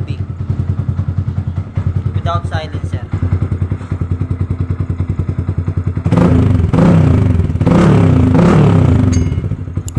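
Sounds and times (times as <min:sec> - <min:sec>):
motorcycle engine idling and revving: 0:00.0 - 0:09.9.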